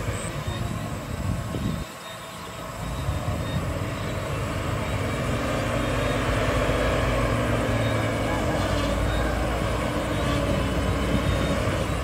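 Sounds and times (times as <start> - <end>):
wheel loader diesel engine: 0.0 - 12.0.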